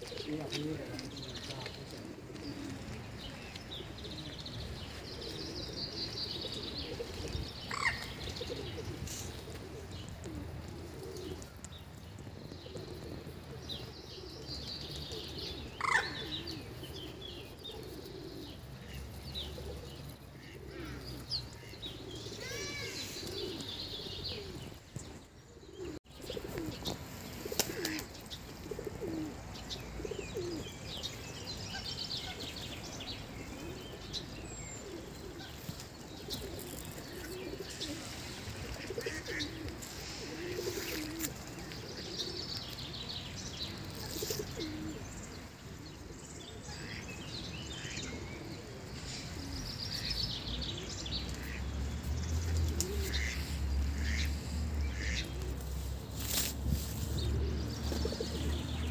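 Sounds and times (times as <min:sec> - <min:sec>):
pigeons cooing: 0:00.0 - 0:58.9
songbirds chirping: 0:00.0 - 0:58.9.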